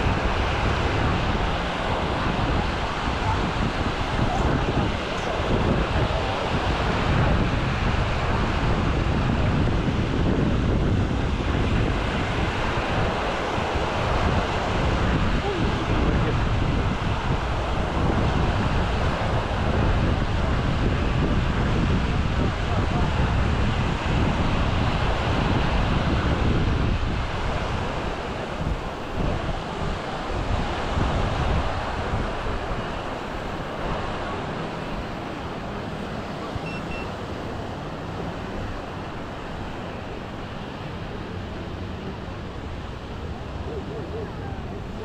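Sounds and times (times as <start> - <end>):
small waves breaking on sand: 0.0 - 45.0
wind buffeting microphone: 0.0 - 45.0.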